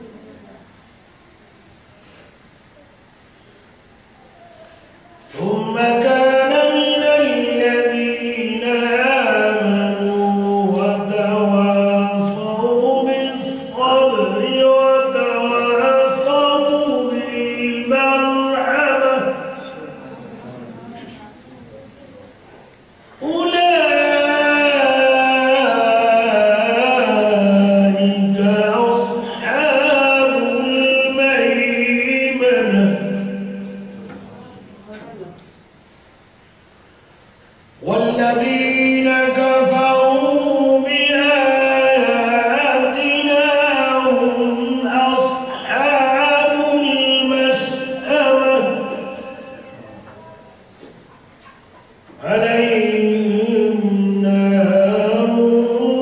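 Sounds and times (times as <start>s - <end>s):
unaccompanied devotional chanting: 4.9s - 35.4s, 37.8s - 56.0s.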